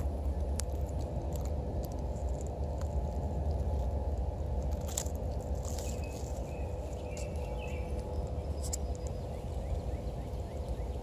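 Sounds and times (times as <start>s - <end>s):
small clicks and crackles: 0.0s - 9.6s
distant industrial drone: 0.0s - 11.0s
faint hum-like tone: 0.0s - 11.0s.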